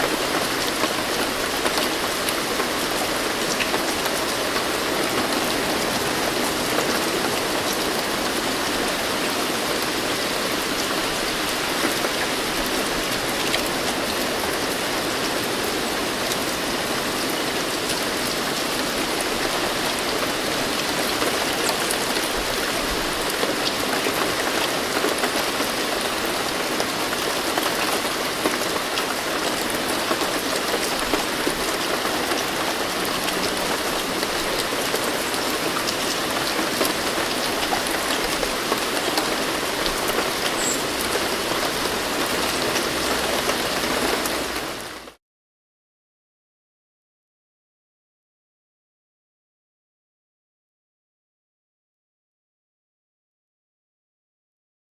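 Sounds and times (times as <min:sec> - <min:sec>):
steady rain falling: 0:00.0 - 0:45.2.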